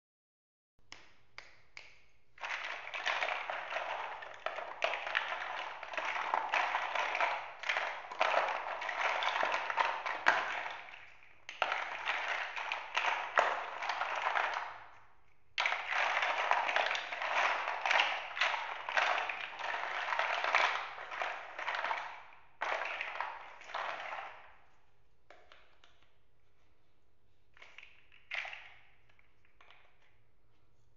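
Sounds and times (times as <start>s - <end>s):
plastic blocks clattering: 2.4s - 24.7s, 27.6s - 30.2s.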